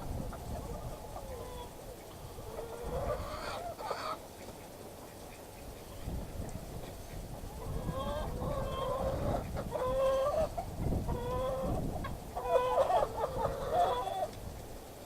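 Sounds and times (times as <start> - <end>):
poultry calling: 0.5 - 6.2, 6.8 - 14.4.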